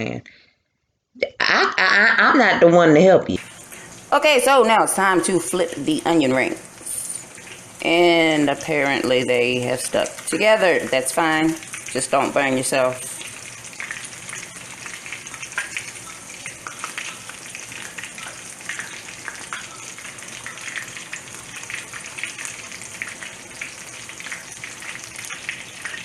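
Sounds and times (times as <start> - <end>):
onion rings frying in oil: 3.4 - 26.0.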